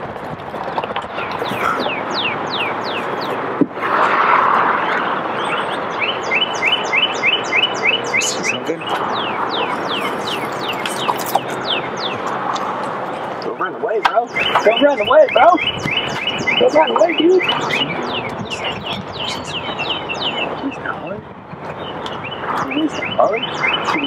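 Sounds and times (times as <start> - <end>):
steady background rush: 0.0 - 24.0
songbird singing: 0.7 - 3.6, 4.7 - 24.0.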